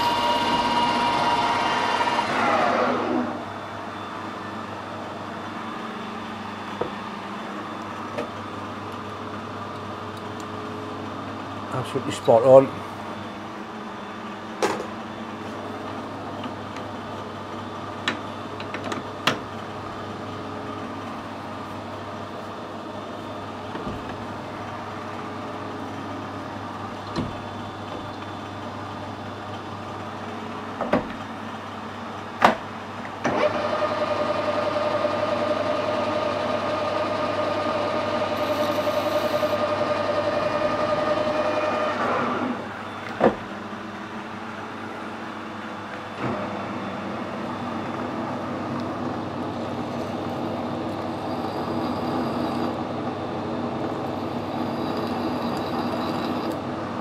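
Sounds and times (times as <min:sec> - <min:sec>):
lathe spindle whine: 0:00.0 - 0:30.7, 0:33.2 - 0:57.0.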